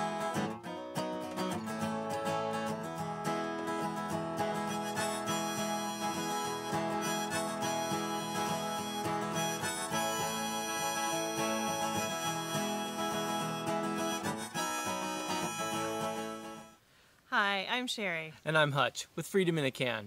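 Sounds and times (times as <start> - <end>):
guitar: 0.0 - 16.8
harmonica melody: 0.0 - 16.8.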